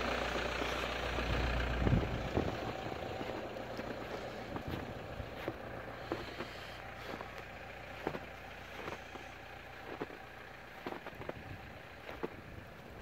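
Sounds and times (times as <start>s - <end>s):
steady low rumble: 0.0s - 13.0s
footsteps crunching in snow: 2.1s - 13.0s.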